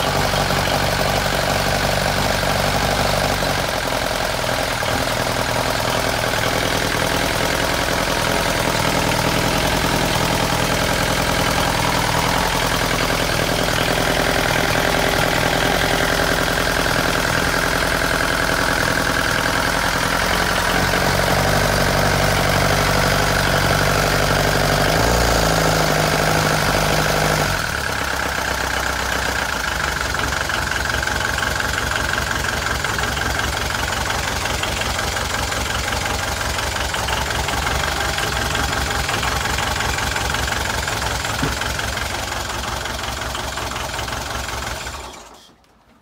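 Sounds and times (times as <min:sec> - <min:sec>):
diesel engine idling: 0:00.0 - 0:45.6.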